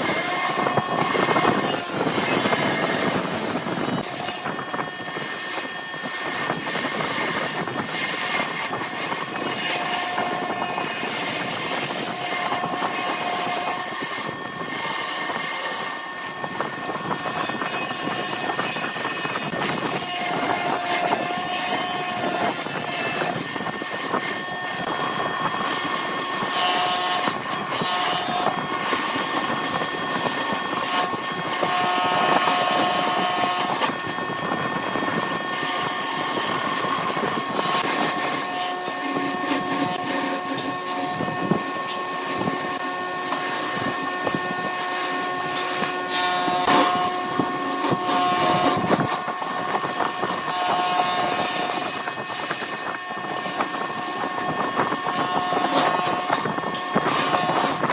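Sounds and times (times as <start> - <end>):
wood lathe whirring: 0.0 - 57.9.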